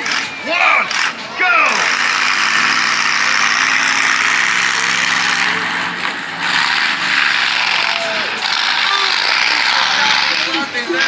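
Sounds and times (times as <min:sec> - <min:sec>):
monster truck engine running hard: 0:00.0 - 0:11.0.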